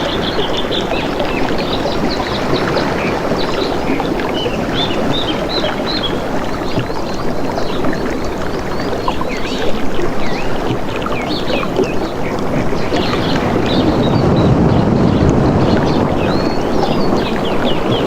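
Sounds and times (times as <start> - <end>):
rushing water: 0.0 - 18.0
small birds chirping: 0.0 - 18.0.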